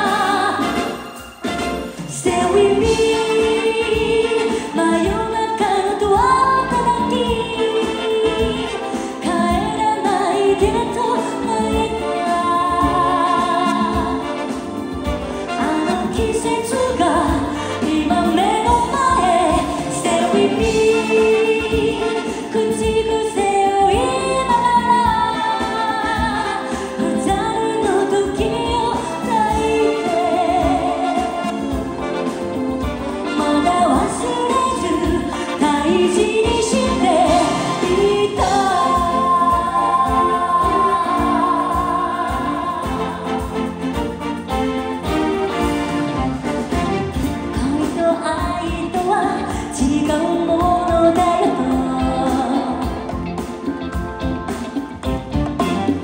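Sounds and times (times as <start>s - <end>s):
woman singing into a microphone: 0.0s - 1.2s, 2.1s - 43.8s, 47.5s - 54.0s
live band playing: 0.0s - 56.0s.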